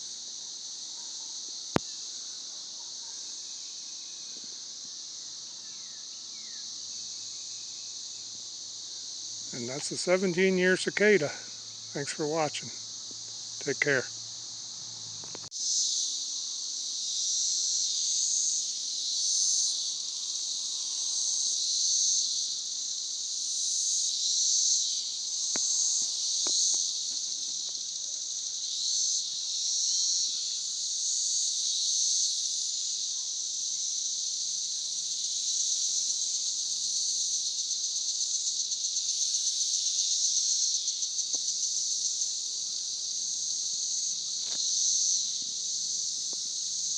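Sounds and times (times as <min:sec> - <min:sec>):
cicadas buzzing: 0:00.0 - 0:46.9.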